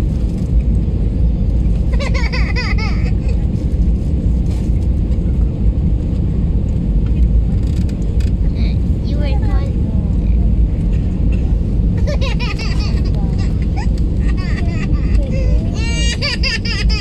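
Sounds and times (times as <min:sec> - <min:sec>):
airliner engines rumbling in cabin: 0:00.0 - 0:17.0.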